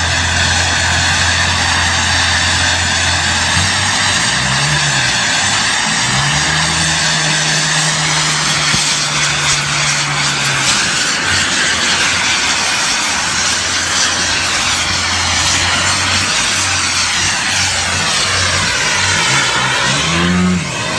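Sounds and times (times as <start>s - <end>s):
aircraft engine noise: 0.0s - 20.9s.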